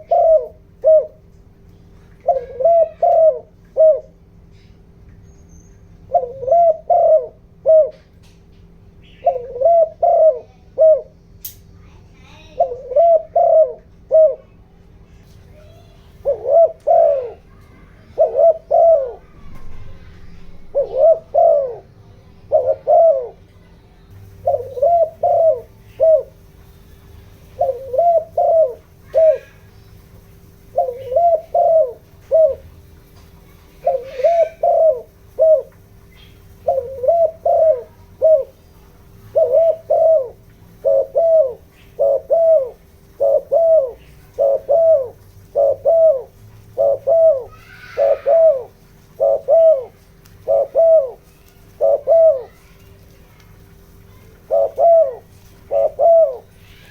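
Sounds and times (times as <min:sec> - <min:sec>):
dove cooing: 0:00.0 - 0:01.3, 0:02.0 - 0:04.4, 0:06.0 - 0:08.2, 0:09.0 - 0:11.2, 0:12.3 - 0:14.6, 0:16.2 - 0:23.6, 0:24.2 - 0:53.2, 0:53.8 - 0:56.9.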